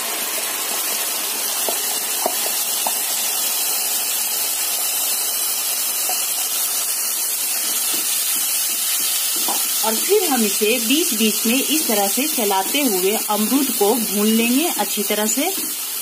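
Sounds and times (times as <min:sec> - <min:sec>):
puree sizzling in hot fat: 0:00.0 - 0:16.0.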